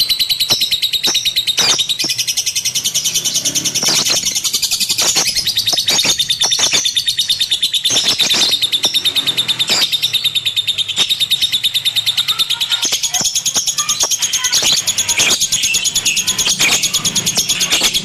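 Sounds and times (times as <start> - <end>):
sharp bird clicks: 0.0 - 12.0, 13.0 - 18.0
lovebird chattering chirps: 0.0 - 18.0.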